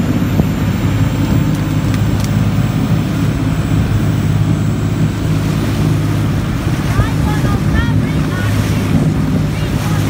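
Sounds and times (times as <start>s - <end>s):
motorboat engine drone: 0.0s - 10.0s
water rushing along hull: 0.0s - 10.0s.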